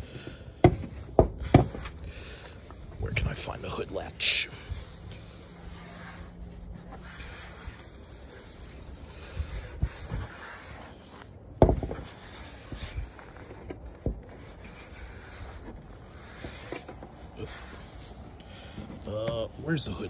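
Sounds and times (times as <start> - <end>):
hands scraping on metal grille: 0.2 - 20.0.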